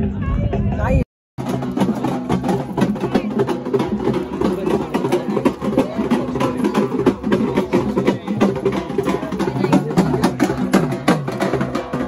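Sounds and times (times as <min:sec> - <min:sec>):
fast dense percussion beat: 0:00.4 - 0:12.0.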